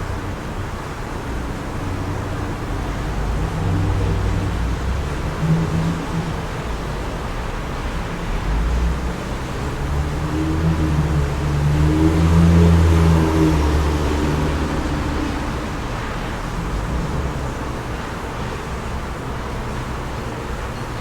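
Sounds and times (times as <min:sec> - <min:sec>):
car passing by: 0:00.0 - 0:20.8.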